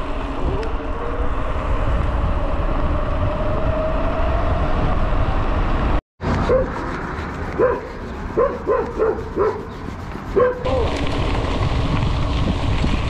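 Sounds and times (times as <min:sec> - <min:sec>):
road rumble: 0:00.0 - 0:13.0
wind rush on microphone: 0:00.0 - 0:13.0.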